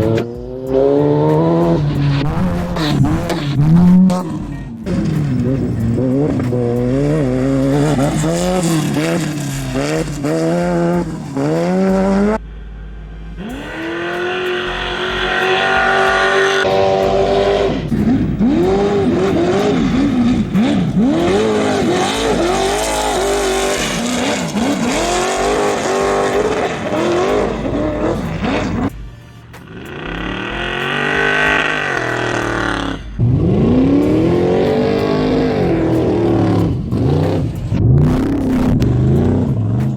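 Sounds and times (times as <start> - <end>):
off-road engines revving and accelerating: 0.0 - 39.9.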